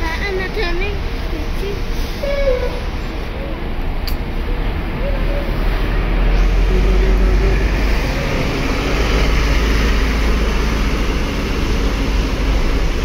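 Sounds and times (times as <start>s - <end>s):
bus diesel engine rumbling: 0.0s - 13.0s.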